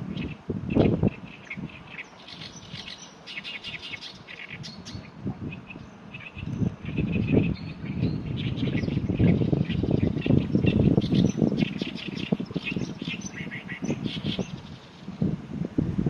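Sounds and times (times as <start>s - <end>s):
reed warbler singing harsh chatter: 0.0s - 15.2s
wind rumbling on microphone: 0.0s - 16.0s.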